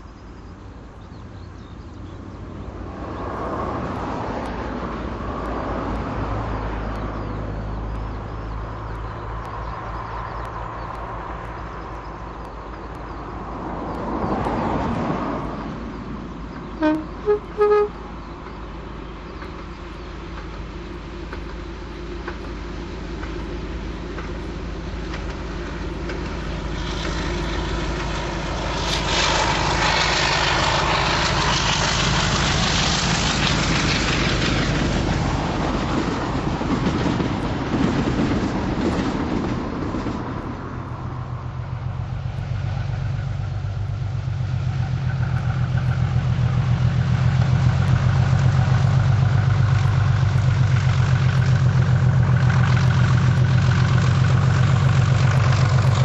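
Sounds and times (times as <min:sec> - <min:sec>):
diesel locomotive engine: 0:00.0 - 0:56.0
rushing noise: 0:02.3 - 0:56.0.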